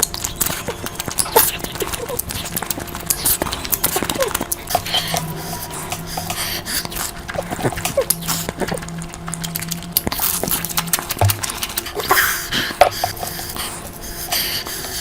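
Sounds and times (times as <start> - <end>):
faint low hum: 0.0 - 15.0
wet chewing and lip smacks: 0.0 - 15.0.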